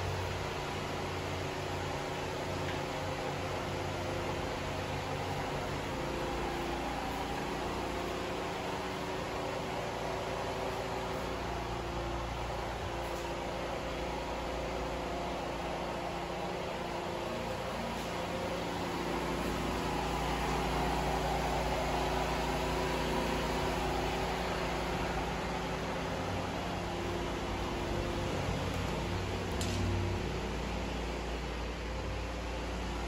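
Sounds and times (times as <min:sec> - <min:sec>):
mechanical hum with hiss: 0:00.0 - 0:33.0.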